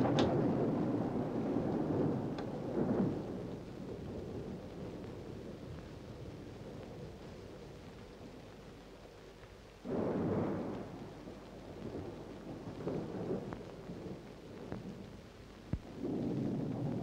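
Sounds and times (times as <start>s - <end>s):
thunder rumbling: 0.0s - 8.8s, 9.8s - 17.0s.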